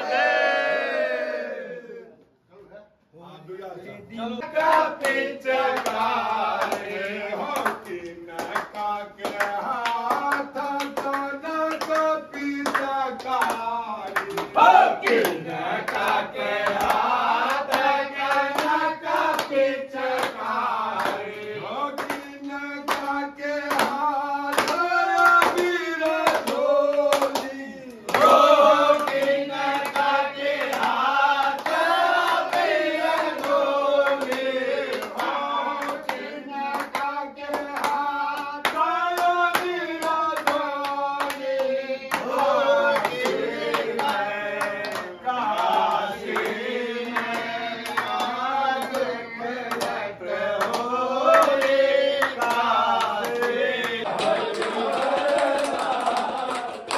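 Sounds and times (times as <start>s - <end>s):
men singing together: 0.0s - 2.2s, 4.1s - 56.9s
hand clapping: 4.4s - 56.9s.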